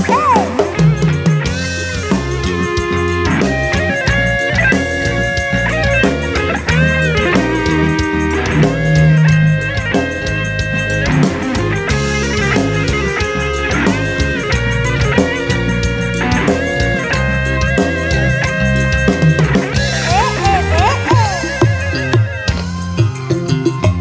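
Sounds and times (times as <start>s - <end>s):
drum kit: 0.0s - 24.0s
electric guitar: 0.0s - 24.0s
heavy bass: 0.0s - 24.0s
rock band through pa system: 0.0s - 24.0s.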